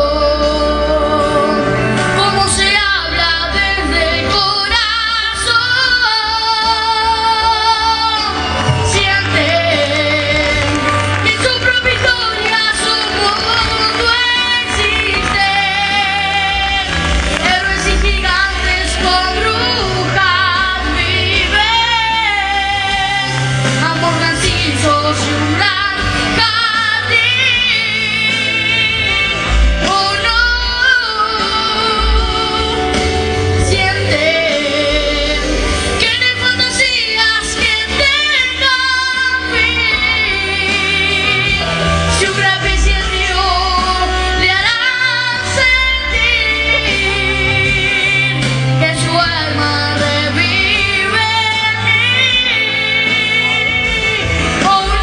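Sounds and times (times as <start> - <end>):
accompanying music with bass line: 0.0 - 55.0
person singing with vibrato: 0.0 - 55.0.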